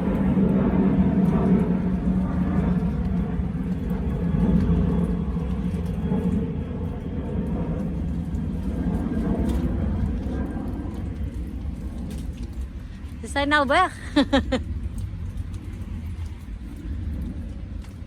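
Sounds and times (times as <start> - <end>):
engine rumble: 0.0 - 18.0.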